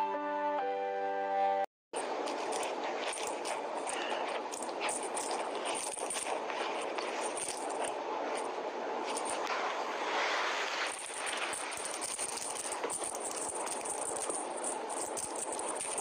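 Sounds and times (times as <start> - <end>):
bedding rustling: 2.0 - 9.5, 10.7 - 16.0.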